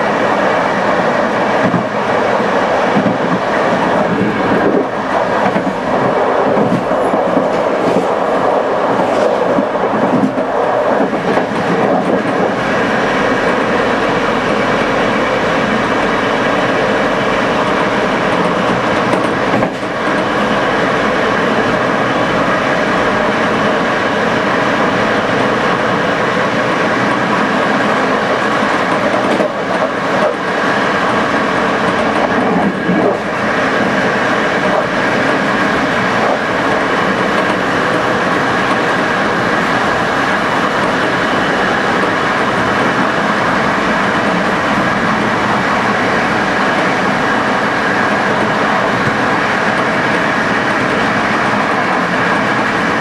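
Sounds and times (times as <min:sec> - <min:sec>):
passenger train wheels rumbling: 0:00.0 - 0:53.0.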